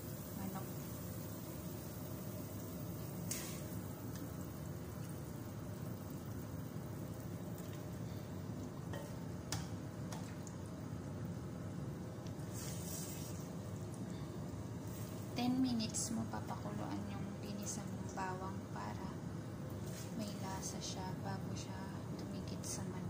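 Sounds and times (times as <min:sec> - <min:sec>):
broth boiling: 0:00.0 - 0:23.0.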